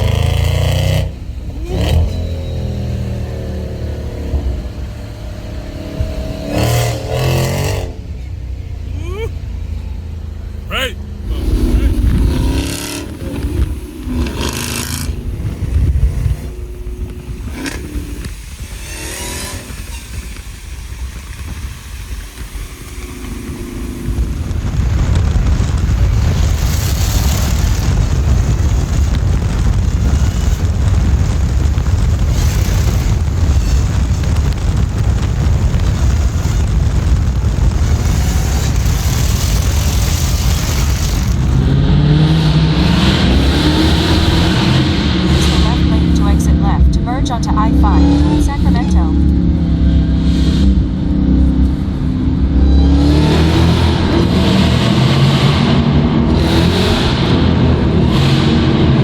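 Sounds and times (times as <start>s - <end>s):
car engine low rumble: 0.0s - 59.0s
road noise: 0.0s - 59.0s.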